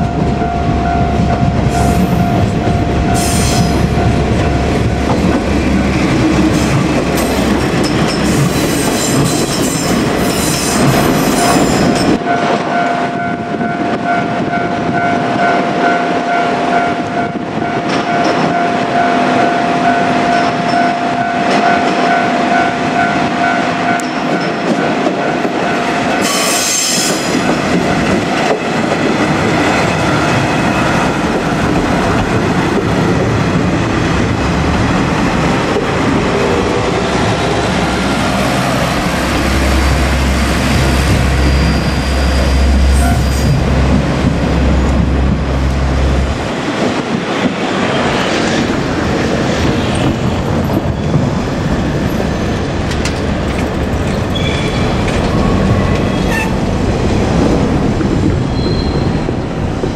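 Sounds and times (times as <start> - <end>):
train rumbling and clattering: 0.0 - 59.9.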